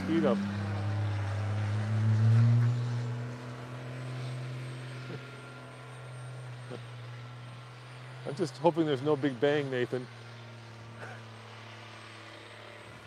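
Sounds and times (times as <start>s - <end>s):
diesel truck engine accelerating: 0.0s - 13.0s.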